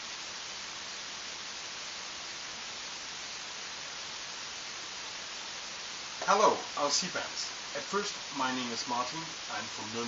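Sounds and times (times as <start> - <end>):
steady static hiss: 0.0 - 10.0.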